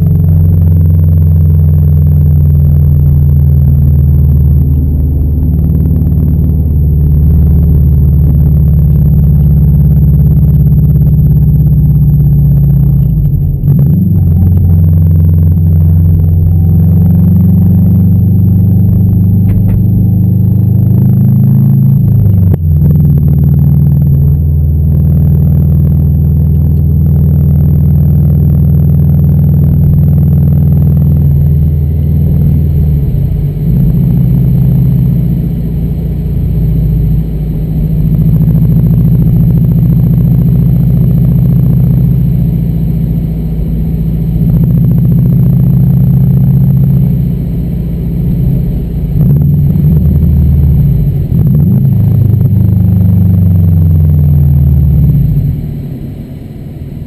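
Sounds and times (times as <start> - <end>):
car engine droning: 0.0 - 57.0
road noise: 0.0 - 57.0.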